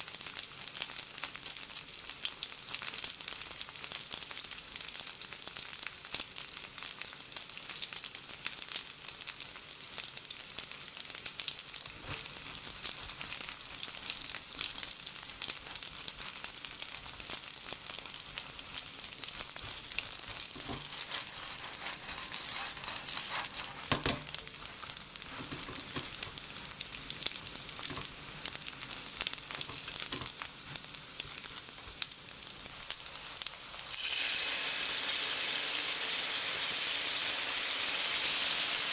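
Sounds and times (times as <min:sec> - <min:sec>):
dumplings sizzling in oil: 0:00.0 - 0:38.9.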